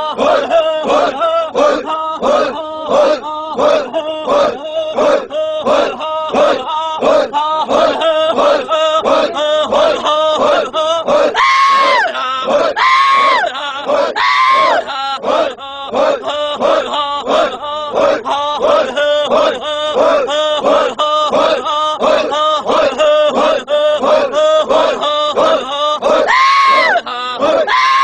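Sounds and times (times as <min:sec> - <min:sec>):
long high shouted cries: 0:00.0 - 0:28.0
men chanting rhythmically: 0:00.0 - 0:28.0.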